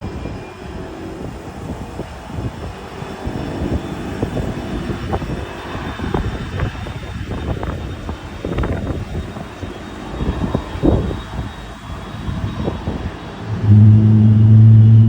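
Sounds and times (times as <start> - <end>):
faint whining tones: 0.0 - 15.0
jet engine rumble: 0.0 - 15.0.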